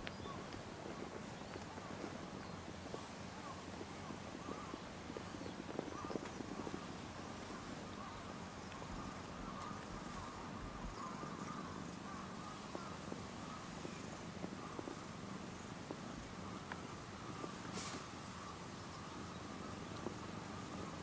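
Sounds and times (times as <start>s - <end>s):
steady low background noise: 0.0s - 21.0s
cats chewing: 0.4s - 20.9s.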